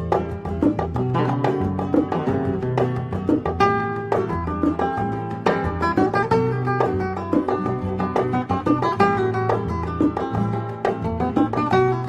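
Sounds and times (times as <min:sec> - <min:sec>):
plucked string music with bass: 0:00.0 - 0:12.0.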